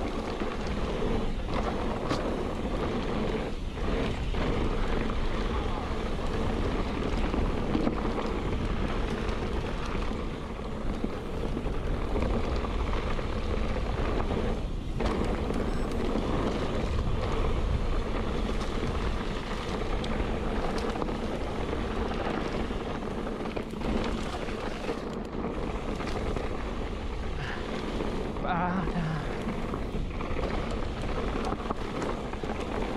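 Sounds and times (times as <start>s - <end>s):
bike rolling on dirt trail: 0.0s - 32.9s
wind rushing over microphone: 0.0s - 32.9s.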